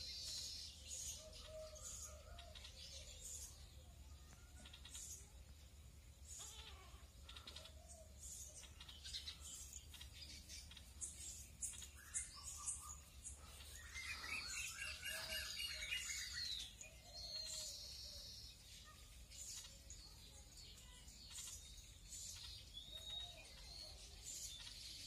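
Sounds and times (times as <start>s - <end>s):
birds chirping and whistling: 0.0s - 25.0s.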